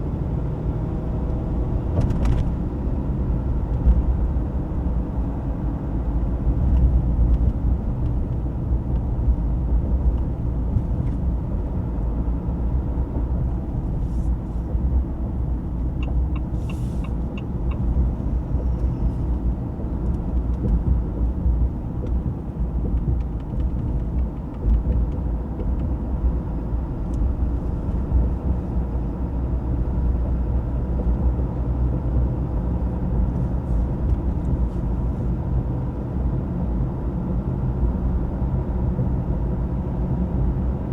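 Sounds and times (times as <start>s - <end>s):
diesel truck engine rumble: 0.0s - 40.9s.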